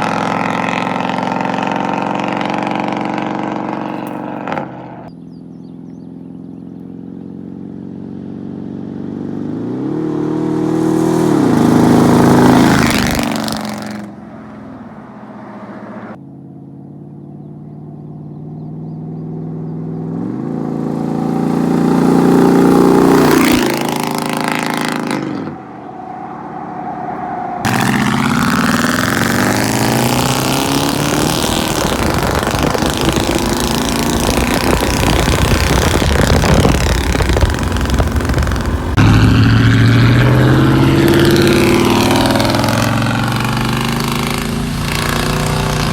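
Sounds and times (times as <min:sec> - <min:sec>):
rough engine rumble: 0:00.0 - 0:09.6, 0:10.8 - 0:45.9
truck engine drive-by: 0:00.0 - 0:45.9.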